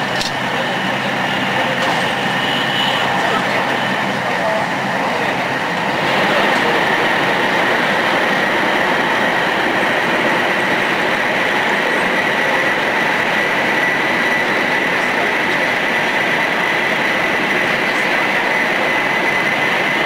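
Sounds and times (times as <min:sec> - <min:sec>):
high-speed train running: 0:00.0 - 0:20.0.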